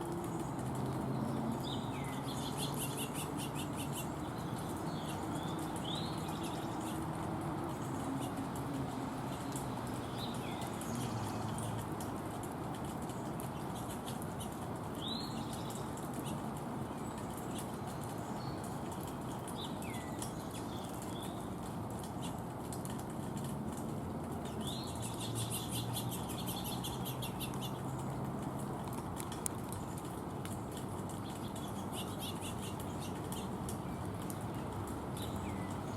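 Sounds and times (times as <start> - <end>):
small birds chirping: 0.0 - 35.9
steady background hiss: 0.0 - 35.9.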